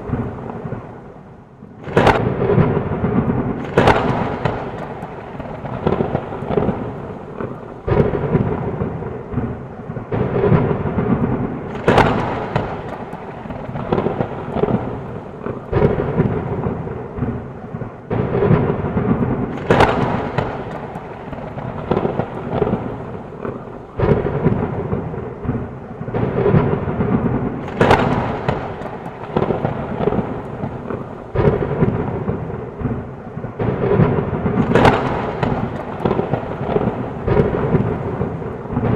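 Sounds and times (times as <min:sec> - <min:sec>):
rolling thunder rumbles: 0:00.0 - 0:38.9
sharp thunder crack: 0:00.0 - 0:38.9
steady rain: 0:00.0 - 0:38.9.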